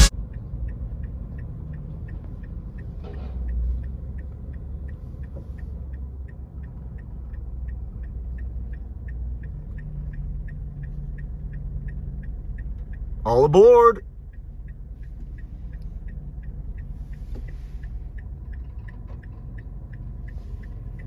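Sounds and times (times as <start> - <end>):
car cabin road rumble: 0.0 - 21.0
turn signal ticking: 0.0 - 21.0.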